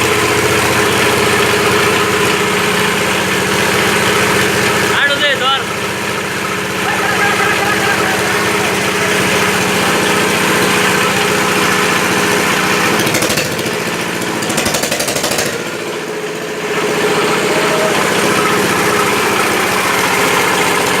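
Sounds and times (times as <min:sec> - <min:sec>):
welding machine buzzing: 0:00.0 - 0:21.0.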